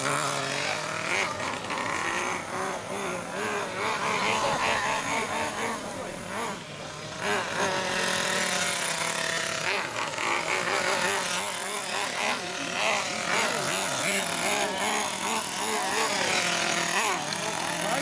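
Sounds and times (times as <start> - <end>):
small nitro engine revving: 0.0 - 18.0.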